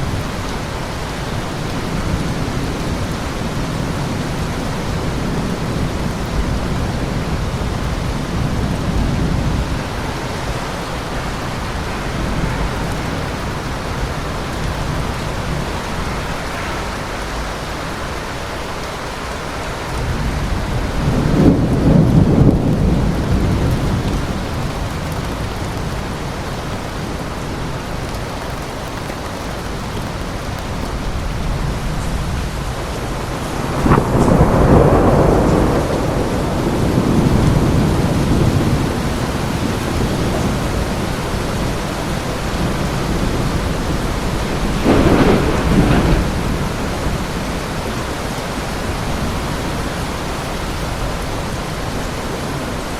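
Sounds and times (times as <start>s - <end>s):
rolling thunder: 0.0s - 25.8s, 30.9s - 52.0s
heavy rain: 0.0s - 52.9s.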